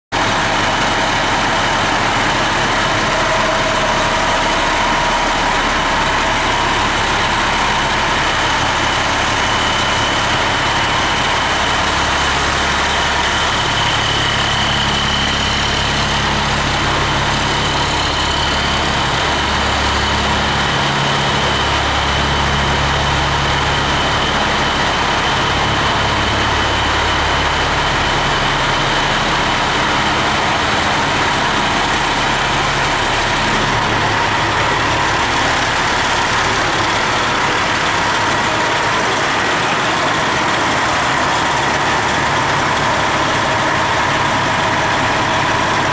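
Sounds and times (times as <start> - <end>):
diesel engine idling: 0.1 - 45.9.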